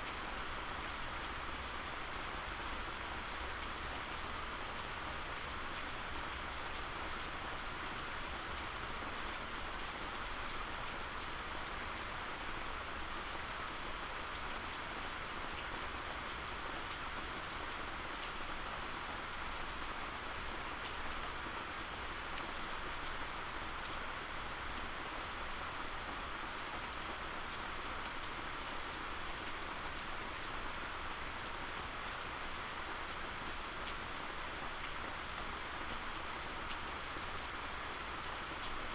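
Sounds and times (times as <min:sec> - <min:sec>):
rain pattering: 0:00.1 - 0:38.9.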